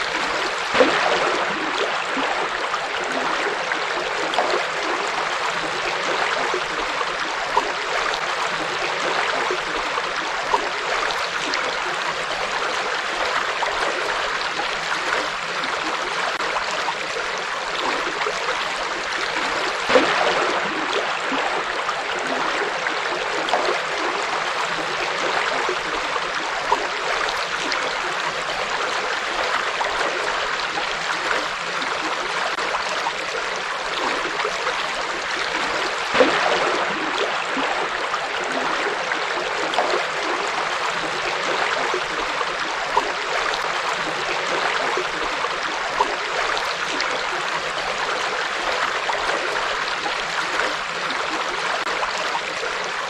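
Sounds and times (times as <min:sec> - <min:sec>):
water splashes: 0:00.0 - 0:53.0.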